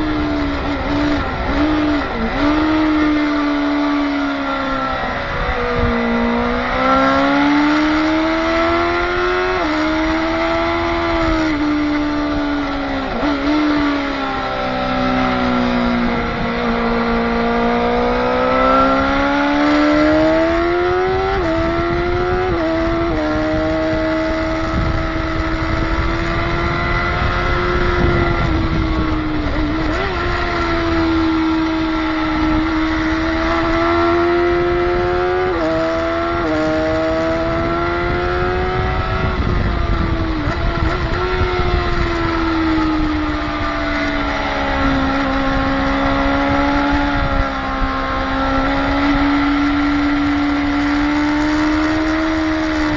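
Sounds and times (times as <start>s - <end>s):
motorcycle engine revving: 0.0s - 52.9s
wind and road noise: 0.0s - 52.9s.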